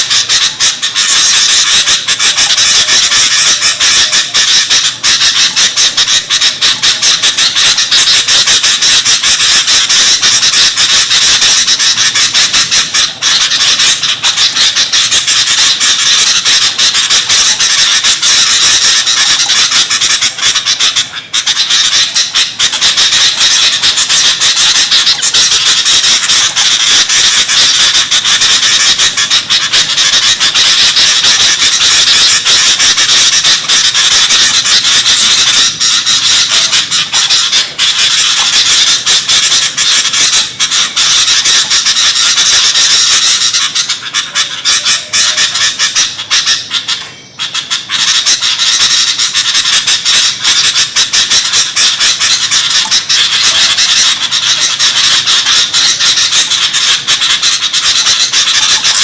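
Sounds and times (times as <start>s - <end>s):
birds chattering noisily: 0.0s - 59.0s.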